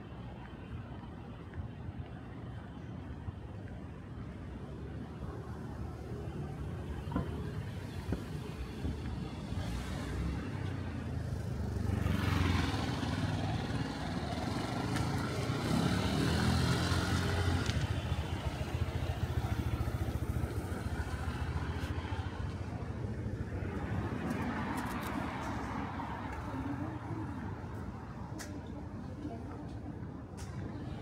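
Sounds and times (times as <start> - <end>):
traffic passing: 0.0 - 31.0.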